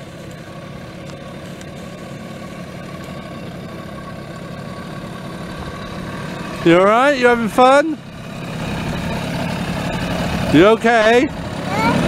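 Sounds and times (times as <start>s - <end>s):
two-stroke quad bike engine running: 0.0s - 12.0s.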